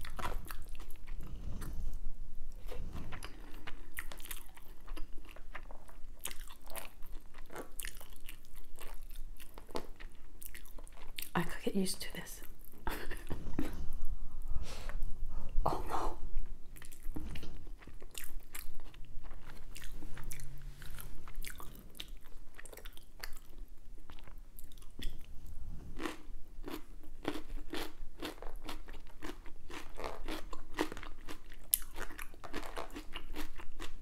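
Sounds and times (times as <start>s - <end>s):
person chewing crunchy food: 0.0s - 11.3s, 16.4s - 34.0s.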